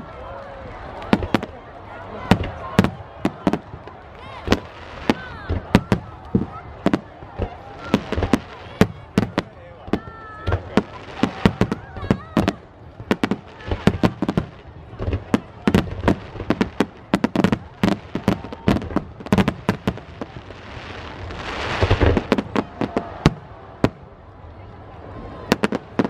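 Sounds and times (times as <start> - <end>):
fireworks crackling: 0.0 - 24.2, 25.0 - 26.0
fireworks bursting: 0.8 - 24.1, 25.4 - 26.0.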